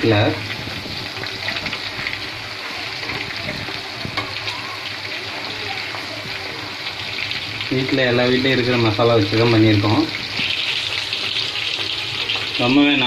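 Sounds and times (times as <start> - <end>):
prawns sizzling in oil: 0.0 - 13.0.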